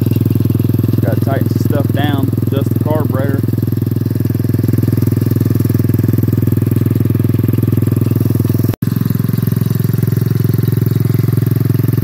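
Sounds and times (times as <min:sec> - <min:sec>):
quad engine idling: 0:00.0 - 0:12.0.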